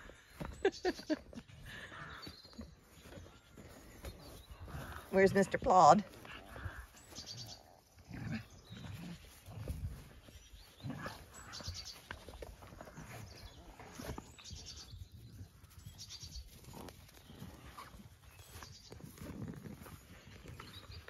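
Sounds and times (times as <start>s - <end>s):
footsteps through grass: 0.0s - 21.0s.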